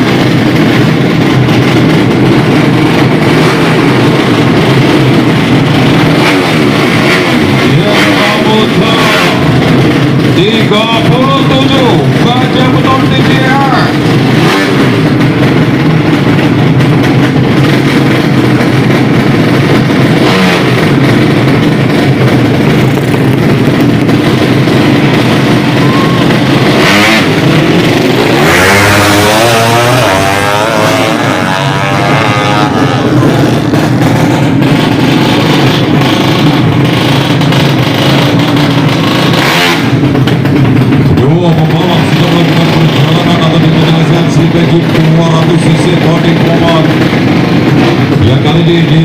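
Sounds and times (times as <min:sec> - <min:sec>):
motorcycle engine revving hard: 0:00.0 - 0:49.0
race motorcycles running loudly: 0:00.0 - 0:49.0.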